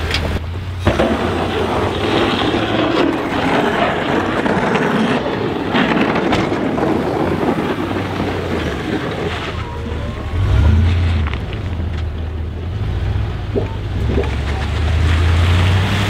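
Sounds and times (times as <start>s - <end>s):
plow blade scraping slush: 0.0s - 16.0s
truck engine rumble: 0.0s - 16.0s.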